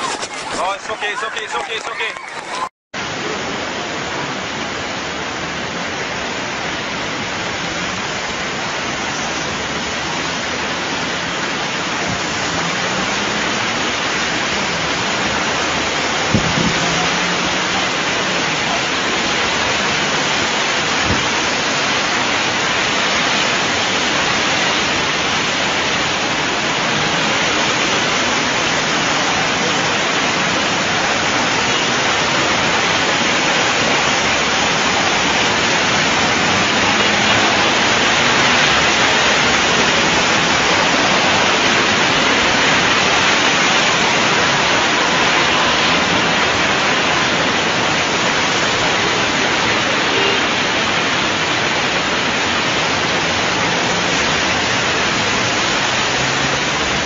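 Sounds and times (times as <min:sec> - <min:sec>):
heavy rain: 0:00.0 - 0:57.0
rushing floodwater: 0:00.0 - 0:57.0.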